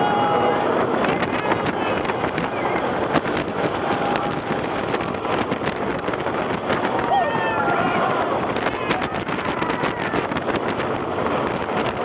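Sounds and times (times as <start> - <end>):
roller coaster train rumble: 0.0 - 12.0
track clatters: 0.0 - 12.0
wind rushing over microphone: 0.0 - 12.0.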